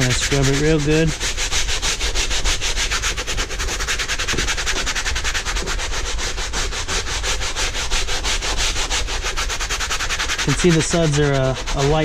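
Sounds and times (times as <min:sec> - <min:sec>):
scrub brush scrubbing rubber mat: 0:00.0 - 0:12.0.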